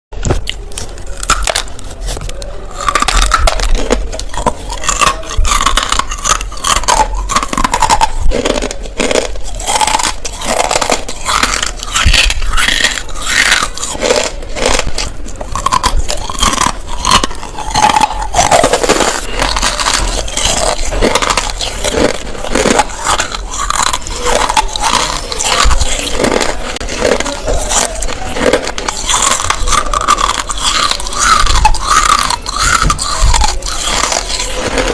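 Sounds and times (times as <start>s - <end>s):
person chewing crunchy clay: 0.2s - 34.9s.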